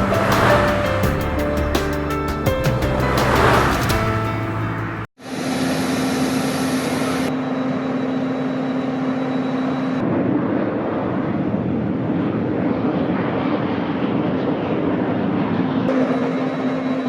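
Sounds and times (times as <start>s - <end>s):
aircraft engine drone: 3.0s - 17.0s.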